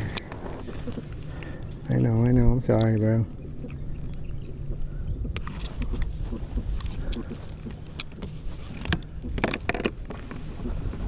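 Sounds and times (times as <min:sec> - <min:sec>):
handling clicks and rattles: 0:00.0 - 0:11.0
wind and water rumble: 0:00.0 - 0:11.0.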